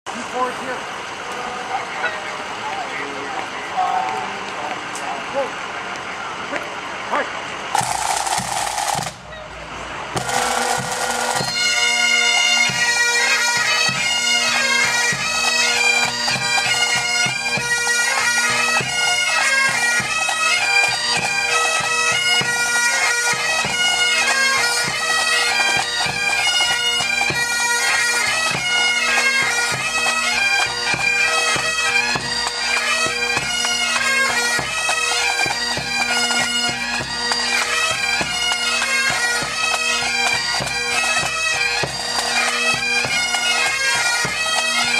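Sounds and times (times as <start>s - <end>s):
drum beating: 7.7s - 9.5s, 10.1s - 22.7s, 23.3s - 44.9s
bagpipes playing: 7.7s - 44.9s.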